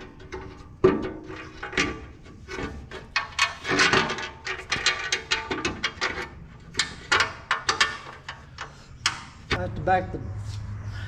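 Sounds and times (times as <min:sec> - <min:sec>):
metal plate clanking on frame: 0:00.0 - 0:09.9.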